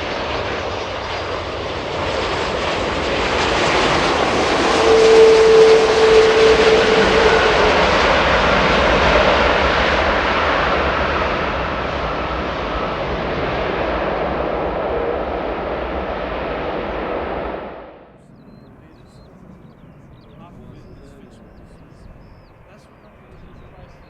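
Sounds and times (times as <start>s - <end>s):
jet airliner engines roaring: 0.0s - 24.0s.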